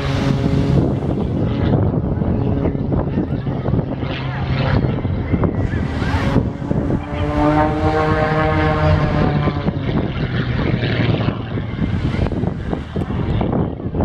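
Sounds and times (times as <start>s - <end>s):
outdoor background noise: 0.0s - 14.0s
propeller plane droning overhead: 0.0s - 14.0s.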